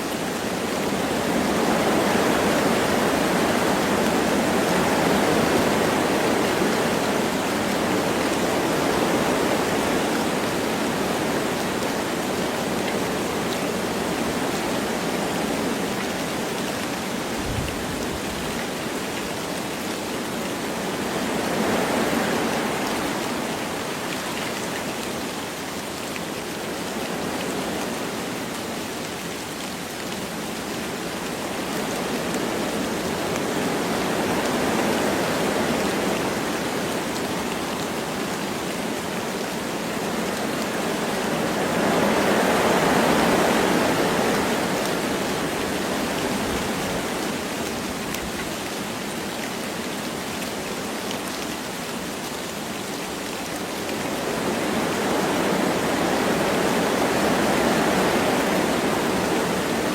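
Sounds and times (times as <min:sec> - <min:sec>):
light rain falling: 0:00.0 - 0:59.9
wind rushing through trees: 0:00.0 - 0:59.9.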